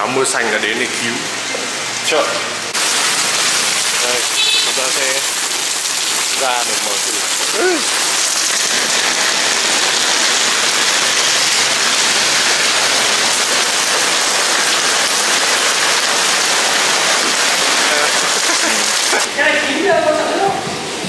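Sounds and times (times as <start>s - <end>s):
heavy rain on umbrella: 2.7s - 21.0s.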